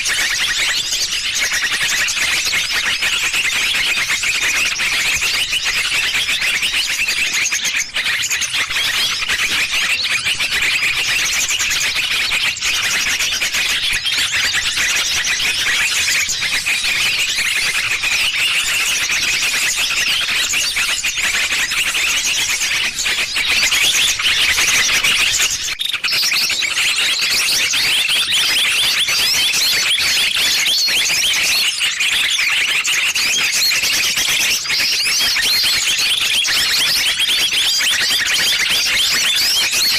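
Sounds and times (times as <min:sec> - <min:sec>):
high-pitched bird chirps: 0:00.0 - 0:39.9.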